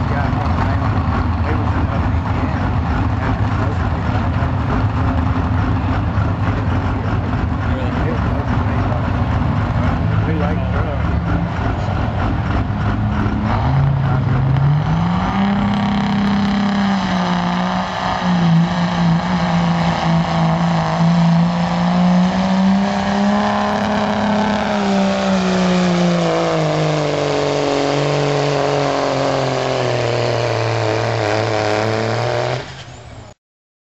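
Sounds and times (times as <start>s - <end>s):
diesel truck engine under load: 0.0s - 33.4s.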